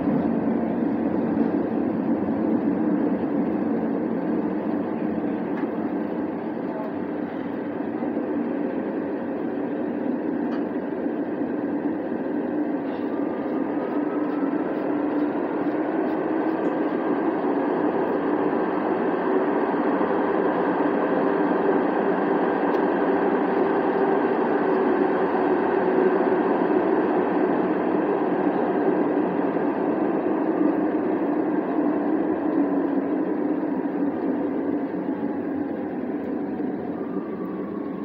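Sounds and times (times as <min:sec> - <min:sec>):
light rail car rumbling in tunnel: 0:00.0 - 0:38.0.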